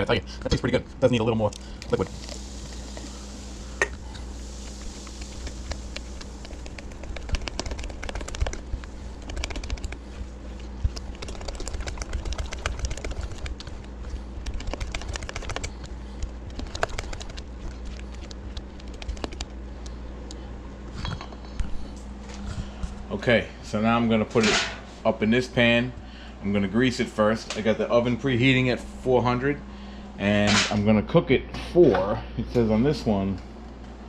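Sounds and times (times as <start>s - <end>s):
low hum: 0.0s - 31.5s.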